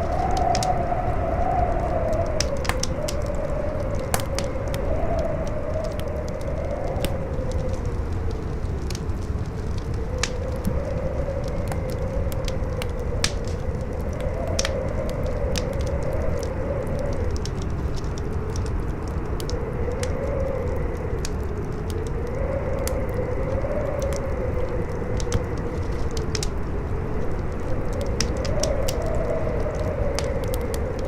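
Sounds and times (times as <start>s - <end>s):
campfire crackling: 0.0s - 31.0s
strong wind howling: 0.0s - 31.0s.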